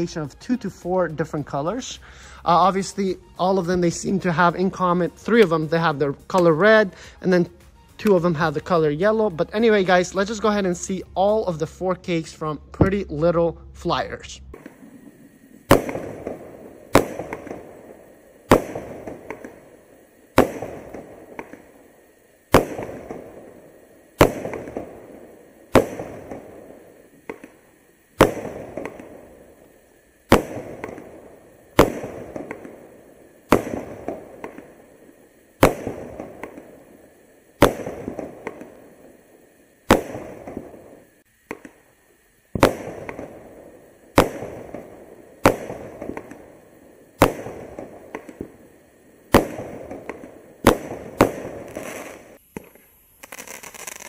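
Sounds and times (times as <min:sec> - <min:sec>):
firework shots: 0:00.0 - 0:54.0.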